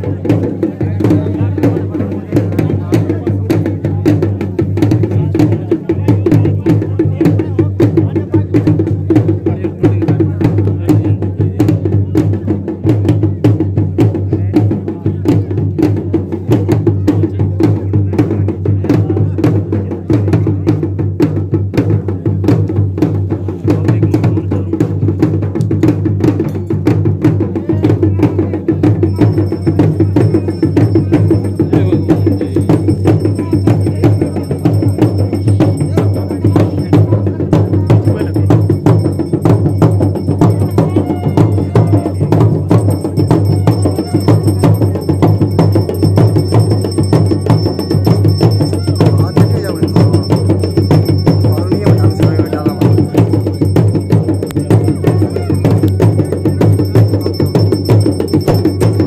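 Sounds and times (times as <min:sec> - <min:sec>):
folk drums beating a dance rhythm: 0:00.0 - 0:59.0.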